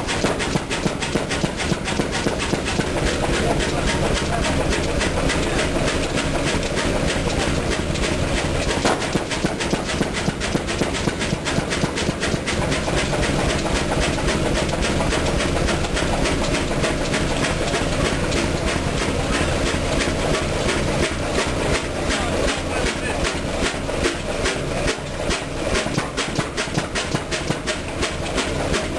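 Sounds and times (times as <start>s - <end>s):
diesel engine clattering: 0.0s - 28.9s.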